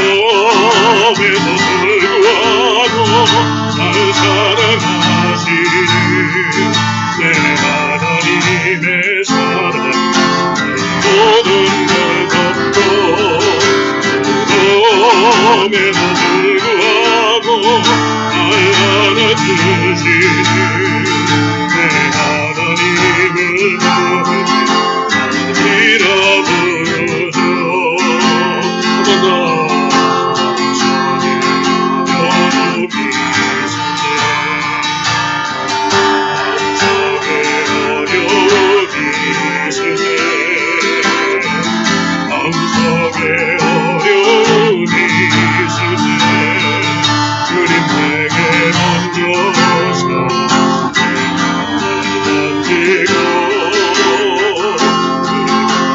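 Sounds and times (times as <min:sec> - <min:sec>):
acoustic guitar strumming: 0:00.0 - 0:55.9
person singing: 0:00.0 - 0:55.9.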